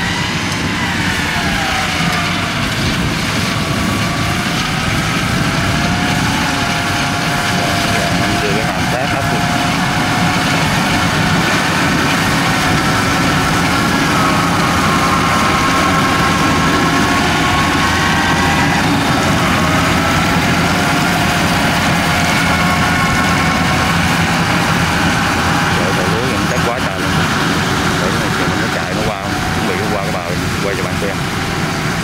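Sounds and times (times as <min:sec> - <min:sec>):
combine harvester engine droning: 0:00.0 - 0:32.0
high mechanical whine: 0:00.0 - 0:32.0.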